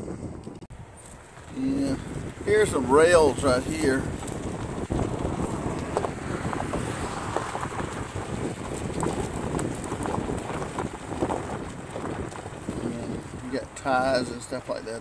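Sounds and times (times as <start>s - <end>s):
wind buffeting microphone: 0.0s - 15.0s
tyres crunching over gravel: 0.8s - 15.0s.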